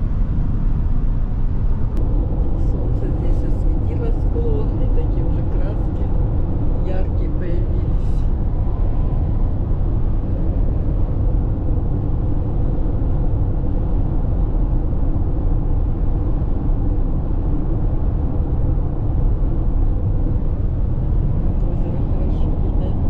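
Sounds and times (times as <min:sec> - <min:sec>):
car interior road and engine noise: 0:00.0 - 0:23.0.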